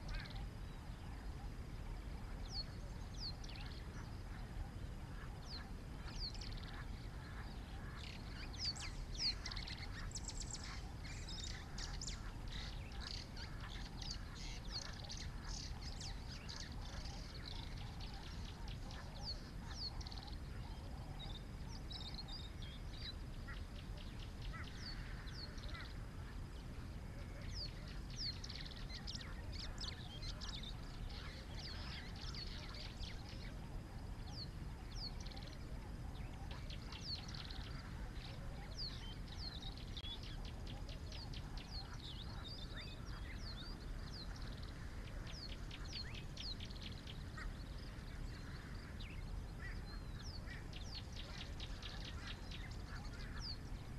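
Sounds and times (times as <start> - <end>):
birds chirping: 0.0 - 53.9
low steady rumble: 0.0 - 53.9.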